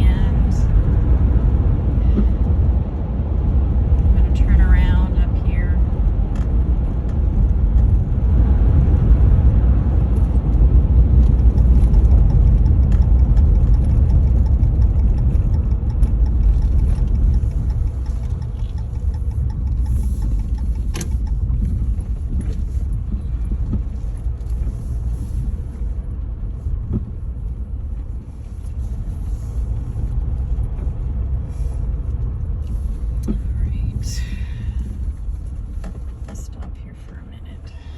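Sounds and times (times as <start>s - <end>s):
pickup truck road rumble: 0.0s - 37.9s.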